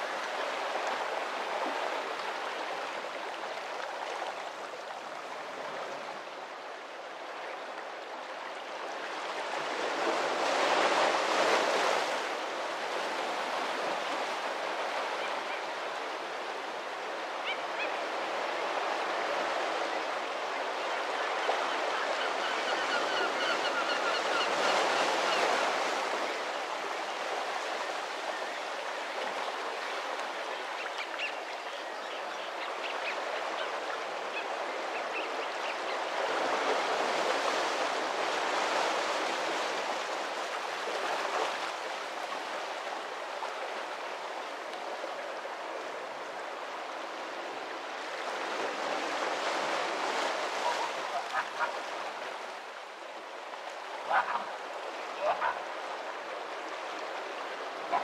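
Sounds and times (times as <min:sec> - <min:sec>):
sea waves washing on shore: 0:00.0 - 0:58.0.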